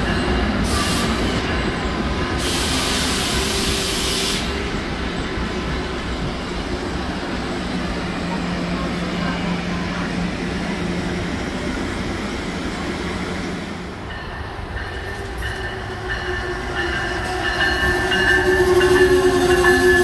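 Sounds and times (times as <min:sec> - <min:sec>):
electric locomotive tones: 0:00.0 - 0:20.0
rail cars rolling on rails: 0:00.0 - 0:20.0.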